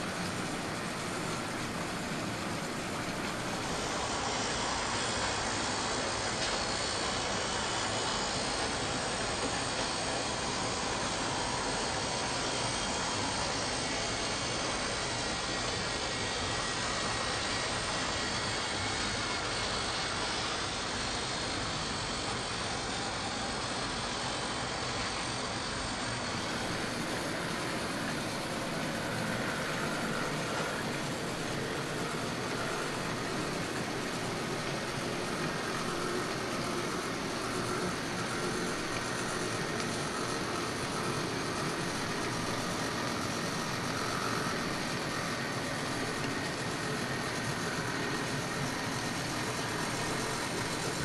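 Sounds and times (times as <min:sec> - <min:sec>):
model train running on track: 0:00.0 - 0:51.0
steady hissing noise: 0:00.0 - 0:51.0.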